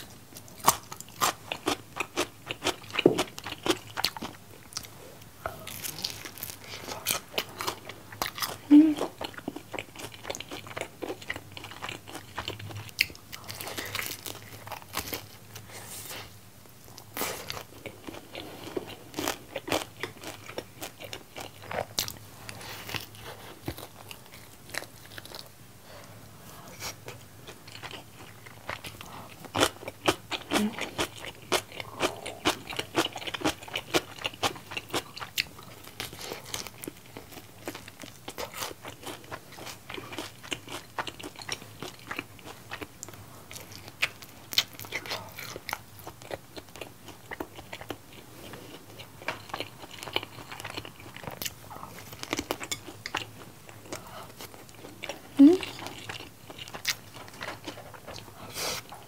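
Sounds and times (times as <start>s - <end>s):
crunchy chewing: 0.0s - 16.2s, 16.8s - 25.5s, 26.8s - 59.0s.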